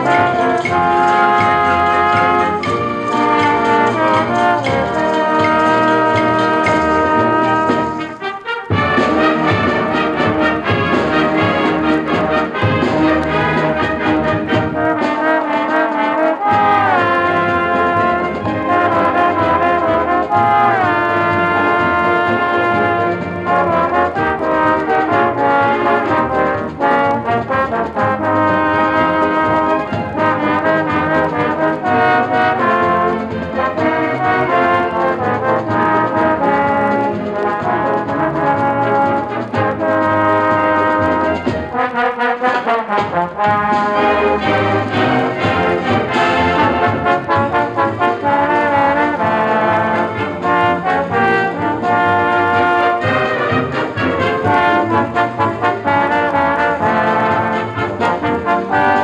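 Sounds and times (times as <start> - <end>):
wind band playing: 0.0 - 59.0.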